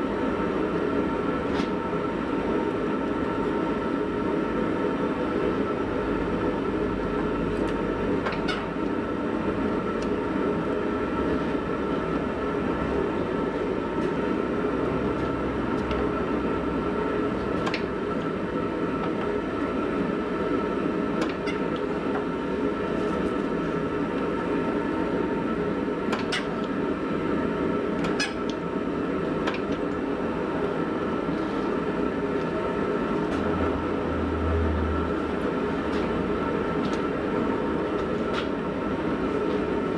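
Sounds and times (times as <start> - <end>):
workshop machine humming: 0.0 - 39.9.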